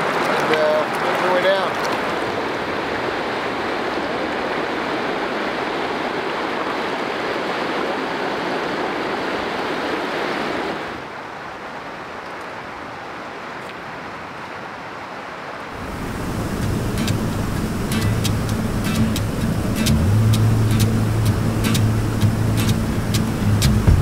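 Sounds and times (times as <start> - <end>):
rapids rushing over rocks: 0.0 - 24.0.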